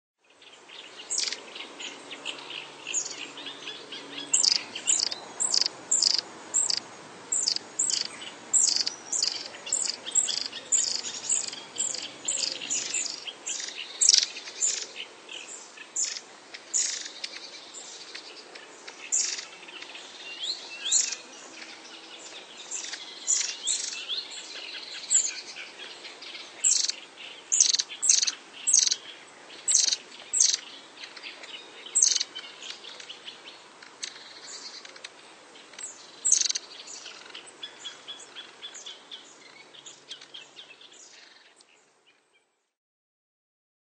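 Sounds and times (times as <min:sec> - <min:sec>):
bird high-pitched calls: 0:00.9 - 0:15.0, 0:19.0 - 0:41.6.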